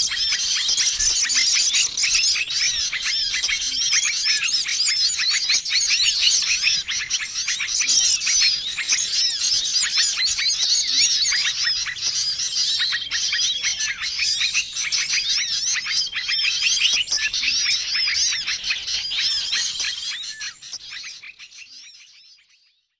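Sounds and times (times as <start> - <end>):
dry rattling bird trill: 0.0 - 20.7
songbirds chirping: 0.0 - 22.9.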